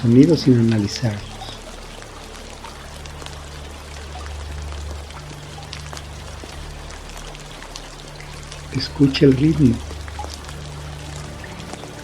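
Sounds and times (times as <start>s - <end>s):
low steady hum: 0.0s - 12.0s
rain falling: 0.0s - 12.0s.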